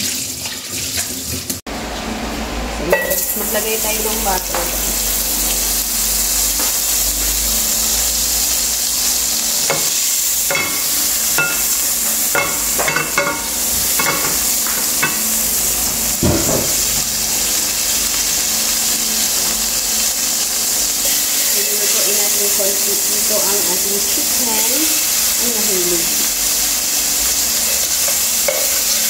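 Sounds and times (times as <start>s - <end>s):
butter sizzling in a pan: 3.0s - 29.0s.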